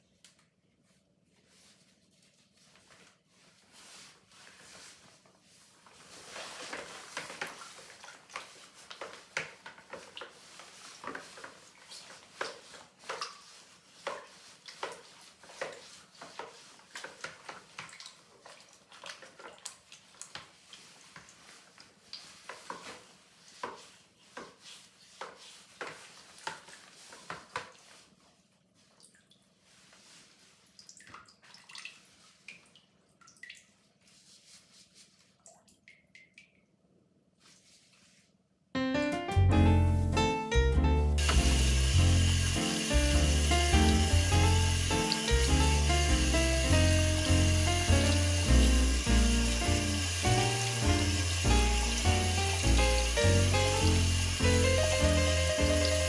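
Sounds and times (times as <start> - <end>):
water dripping and splashing: 6.0 - 28.1, 28.8 - 36.8, 41.2 - 56.0.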